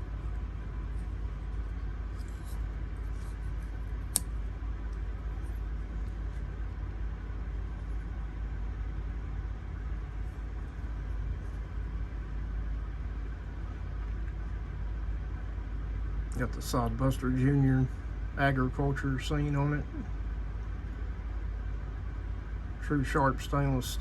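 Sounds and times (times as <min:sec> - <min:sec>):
engine idling low rumble: 0:00.0 - 0:24.0.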